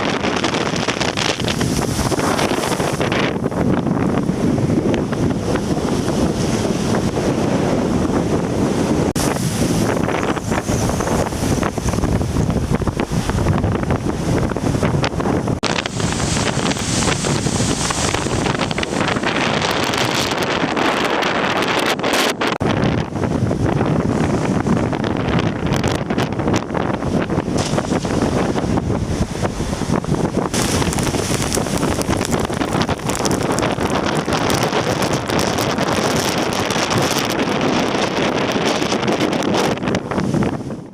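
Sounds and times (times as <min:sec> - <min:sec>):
rushing water and waves: 0:00.0 - 0:40.9
strong wind buffeting microphone: 0:00.0 - 0:40.9.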